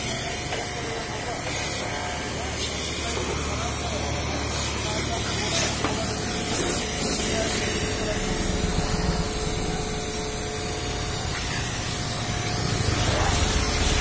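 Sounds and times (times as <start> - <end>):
pressure washer hum: 0.0 - 14.0.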